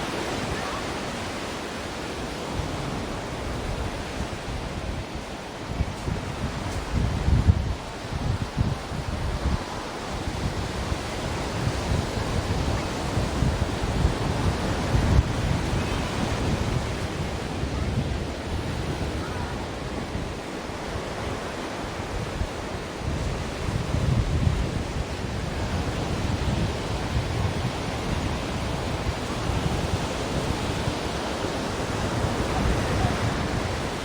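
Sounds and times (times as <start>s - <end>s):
ocean waves washing onto shore: 0.0s - 34.0s.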